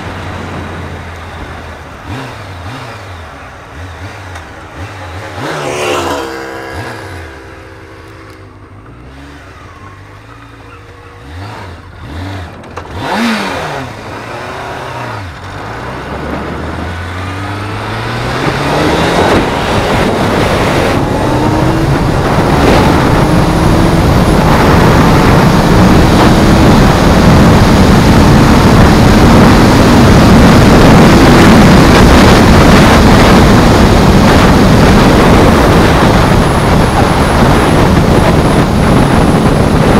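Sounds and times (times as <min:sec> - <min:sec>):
wind rush on microphone: 0:00.0 - 0:04.1, 0:04.7 - 0:39.9
motorcycle engine revving: 0:00.0 - 0:39.9.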